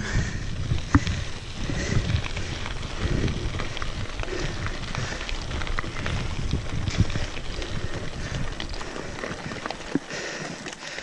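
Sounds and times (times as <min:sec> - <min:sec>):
wind rumble on microphone: 0:00.0 - 0:10.1
bike tyres crunching on gravel: 0:00.0 - 0:11.0.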